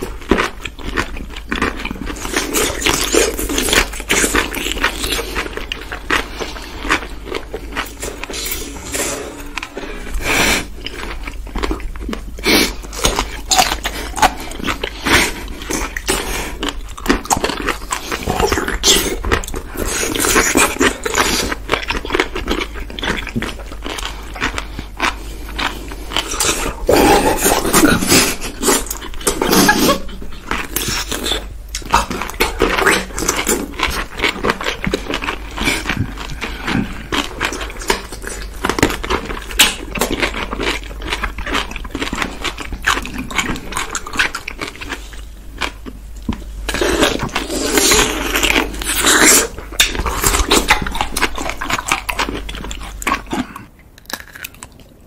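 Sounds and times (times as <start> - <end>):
crunchy pickle chewing: 0.0 - 55.0.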